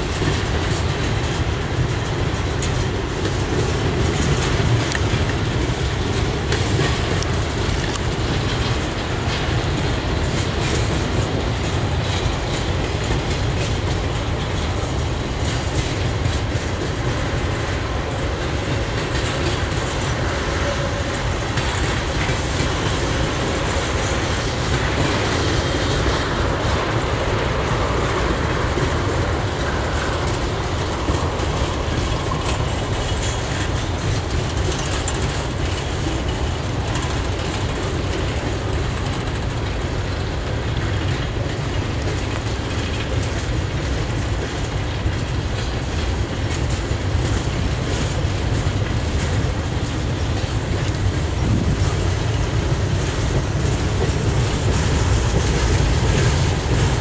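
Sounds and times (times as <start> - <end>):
clickety-clack of wheels on rails: 0.0 - 57.0
freight train rolling past: 0.0 - 57.0.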